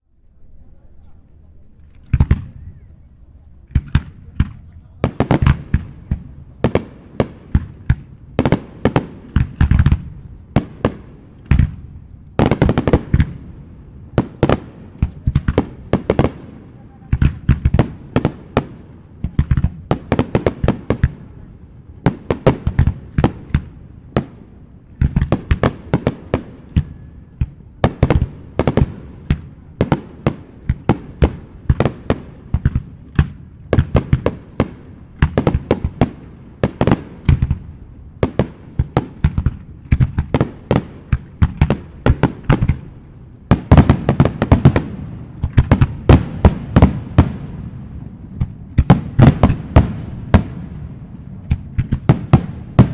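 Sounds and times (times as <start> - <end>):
fireworks bursting with sharp bangs: 1.7 - 52.9.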